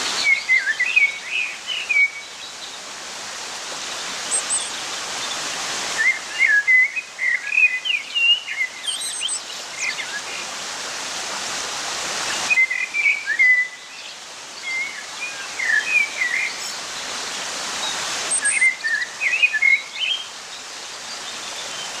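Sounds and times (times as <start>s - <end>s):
songbird singing: 0.0s - 10.6s, 12.2s - 22.0s
steady background hiss: 0.0s - 22.0s.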